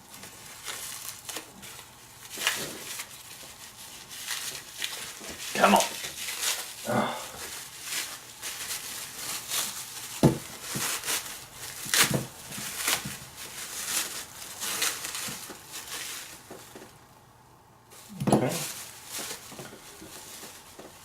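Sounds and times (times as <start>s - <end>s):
packaging crinkling and tearing: 0.1s - 17.0s, 18.0s - 21.0s.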